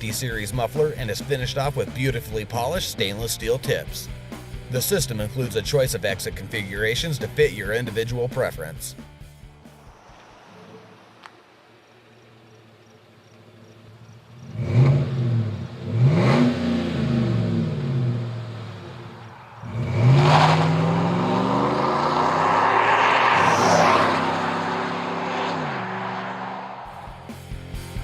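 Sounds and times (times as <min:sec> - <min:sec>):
truck engine idling and revving: 0:00.0 - 0:28.0.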